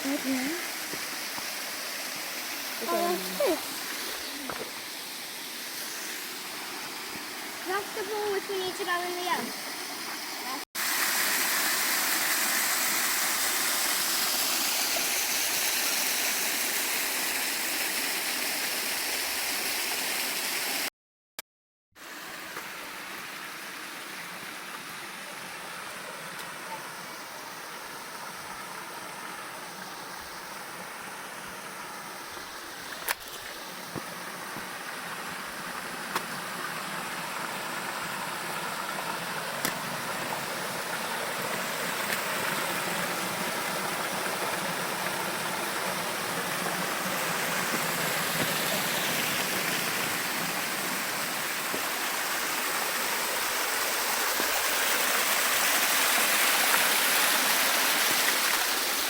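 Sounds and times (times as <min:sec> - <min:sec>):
stream and waterfall rushing: 0:00.0 - 0:20.9, 0:22.0 - 0:59.0.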